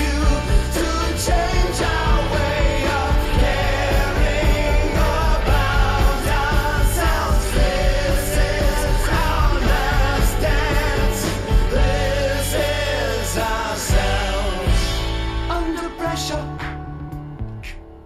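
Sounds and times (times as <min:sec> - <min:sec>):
drum beat: 0:00.0 - 0:15.8
rock song with singing: 0:00.0 - 0:17.9.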